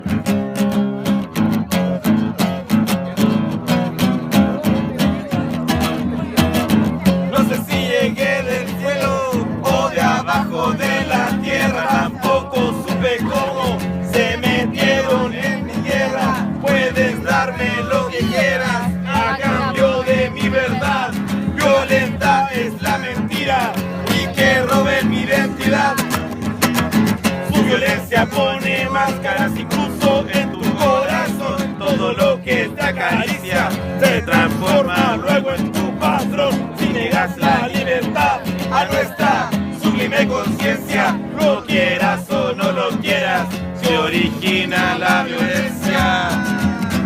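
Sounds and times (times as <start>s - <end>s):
bending guitar lead line: 0.0s - 47.0s
strummed guitar chords: 0.0s - 47.0s.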